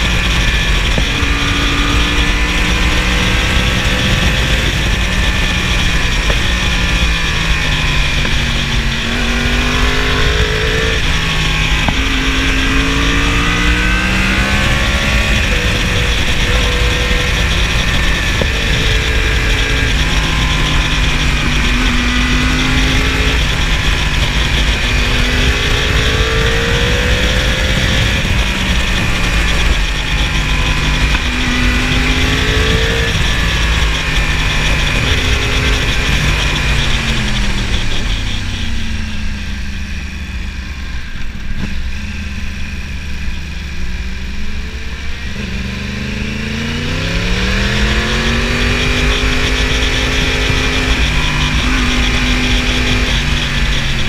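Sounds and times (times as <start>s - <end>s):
motorcycle engine revving: 0.0s - 54.0s
wind rushing over microphone: 0.0s - 54.0s.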